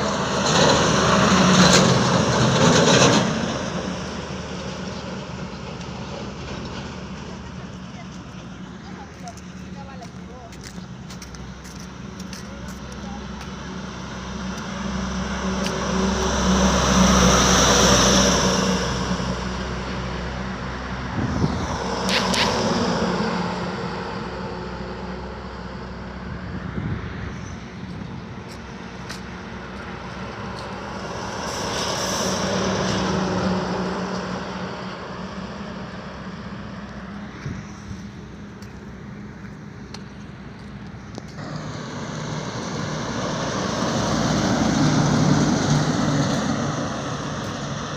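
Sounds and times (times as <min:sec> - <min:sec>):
passing road traffic: 0:00.0 - 0:47.9
vehicle engine humming: 0:00.0 - 0:47.9.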